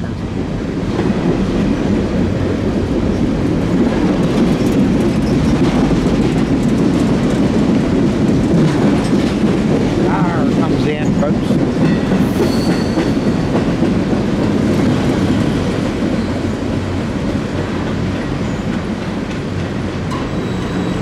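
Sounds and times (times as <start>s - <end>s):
rail clacks: 0.0s - 21.0s
train wheels rumbling on rail: 0.0s - 21.0s.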